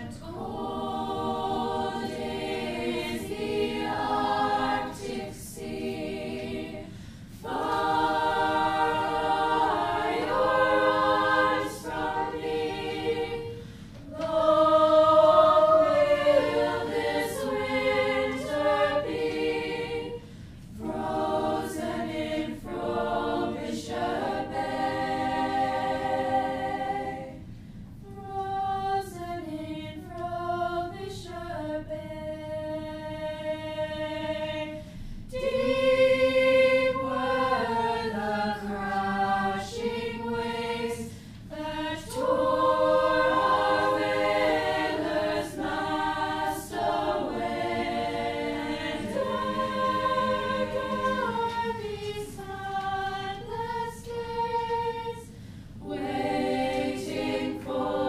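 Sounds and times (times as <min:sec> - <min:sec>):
choir singing held chords: 0:00.0 - 0:58.0.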